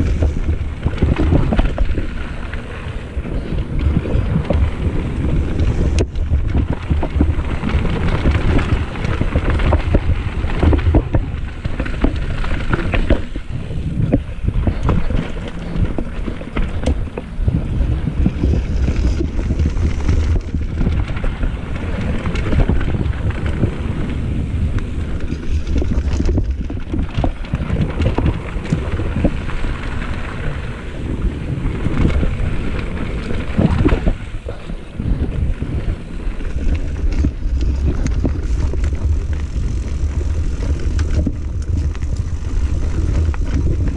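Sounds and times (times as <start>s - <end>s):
bike rattling and clicking over bumps: 0.0s - 43.9s
wind buffeting microphone: 0.0s - 43.9s.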